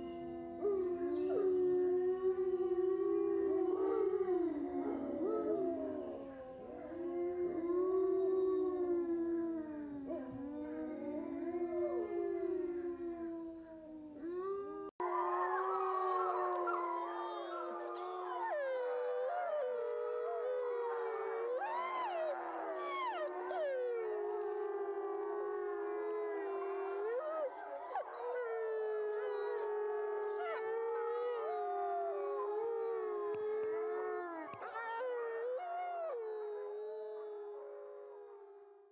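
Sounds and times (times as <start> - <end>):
wolves howling in chorus: 0.0 - 38.9.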